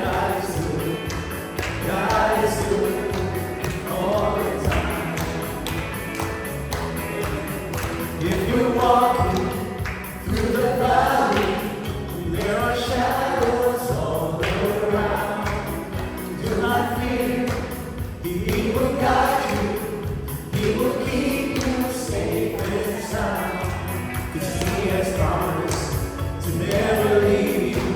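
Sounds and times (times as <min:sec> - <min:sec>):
band playing steady beat: 0:00.0 - 0:27.9
worship team singing: 0:00.0 - 0:27.9.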